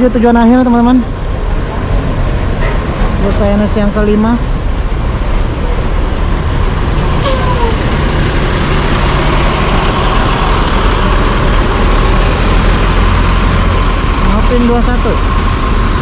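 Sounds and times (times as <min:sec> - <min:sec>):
deep diesel engine drone: 0:00.0 - 0:16.0
engine whine: 0:00.0 - 0:16.0.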